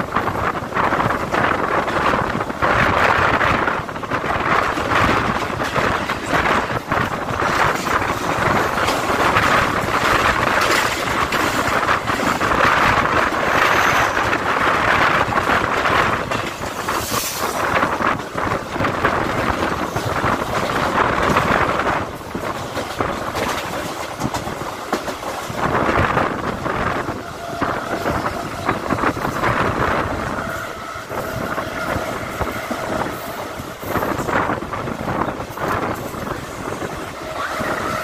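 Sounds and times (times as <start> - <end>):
passing train: 0.0 - 38.0
train wheels rumbling on rails: 0.0 - 38.0.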